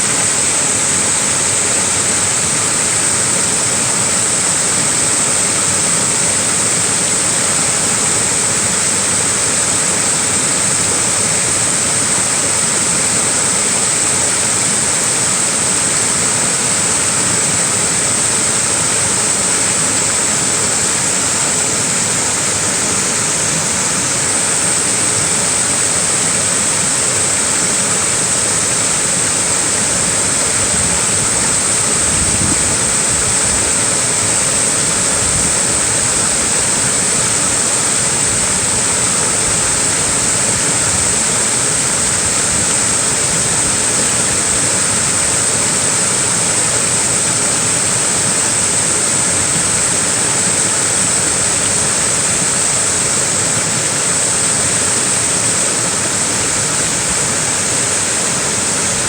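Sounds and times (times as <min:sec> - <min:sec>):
small waterfall rushing: 0:00.0 - 0:59.0.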